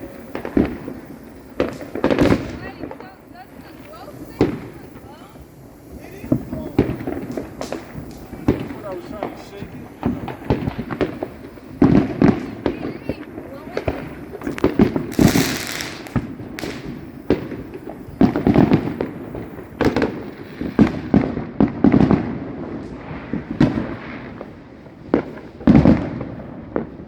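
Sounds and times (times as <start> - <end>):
firework hiss: 0.0 - 27.0
fireworks and firecrackers banging: 0.0 - 27.0.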